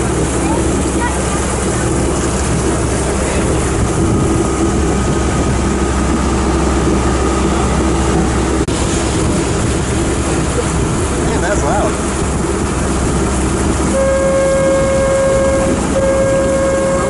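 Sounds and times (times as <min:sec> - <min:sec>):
boat engine humming: 0:00.0 - 0:17.0
rush of wind and water: 0:00.0 - 0:17.0.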